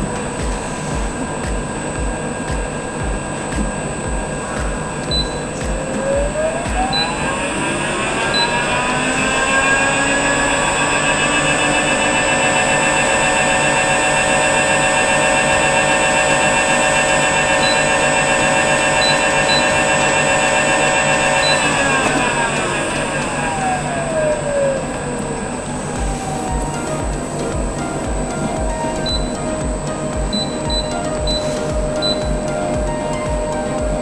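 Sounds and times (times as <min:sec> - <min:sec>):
electric motor whine: 0:00.0 - 0:34.0.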